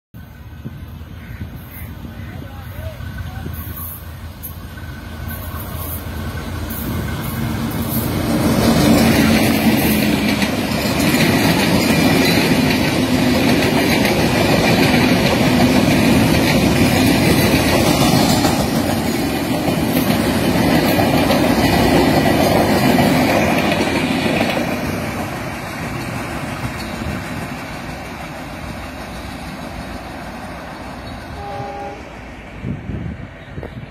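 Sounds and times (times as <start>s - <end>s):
passenger train passing at speed: 0.2s - 33.9s.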